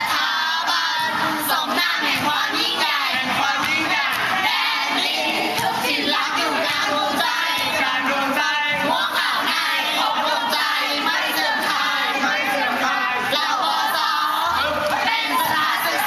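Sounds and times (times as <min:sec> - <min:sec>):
group of young voices singing: 0:00.0 - 0:16.0.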